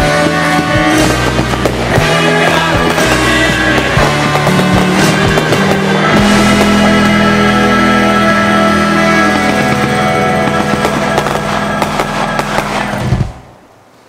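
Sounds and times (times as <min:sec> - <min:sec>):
loud recorded music: 0:00.0 - 0:13.4
fireworks popping and crackling: 0:00.0 - 0:13.5.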